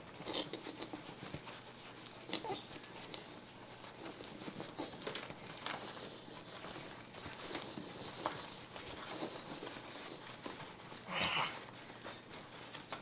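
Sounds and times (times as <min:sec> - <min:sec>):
monkeys tussling on mesh: 0:00.0 - 0:13.0.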